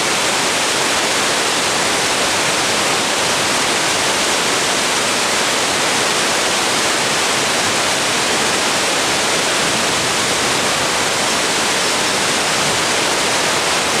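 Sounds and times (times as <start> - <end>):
fast-flowing river water: 0.0 - 14.0.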